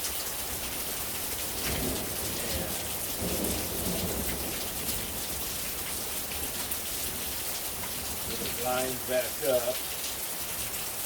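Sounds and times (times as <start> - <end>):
heavy rain falling: 0.0 - 11.0
thunder rumbling: 0.5 - 9.7.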